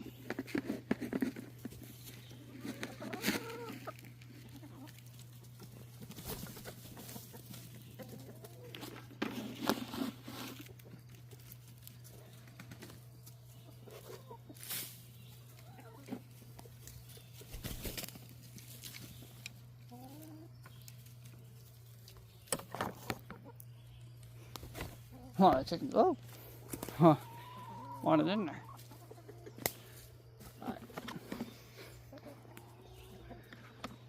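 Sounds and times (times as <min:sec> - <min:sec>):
chickens clucking softly: 0:00.1 - 0:09.2, 0:10.6 - 0:34.0.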